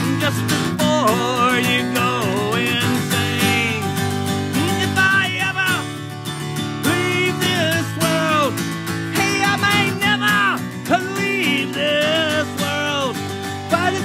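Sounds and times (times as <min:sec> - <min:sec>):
acoustic guitar strumming: 0:00.0 - 0:14.0
man singing: 0:00.0 - 0:14.0.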